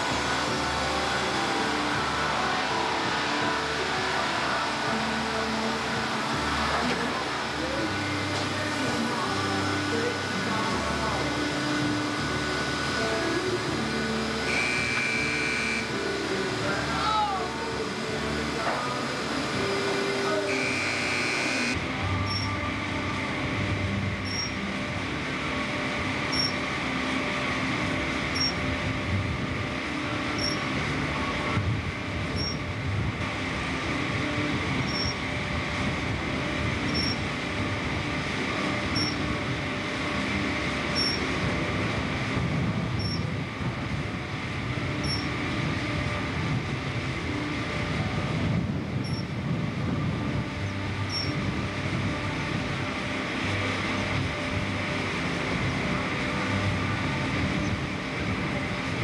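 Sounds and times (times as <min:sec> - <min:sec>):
diesel loader engine running: 0:00.0 - 0:59.0.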